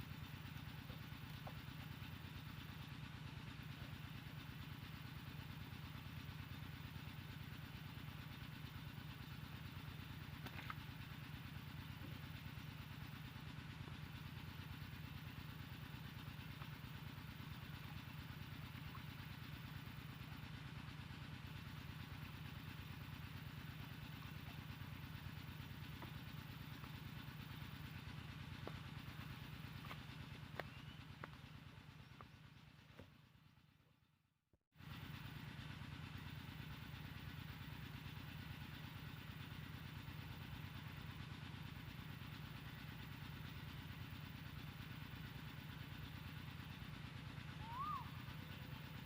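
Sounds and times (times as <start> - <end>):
small engine running: 0.0 - 34.0, 34.8 - 49.0.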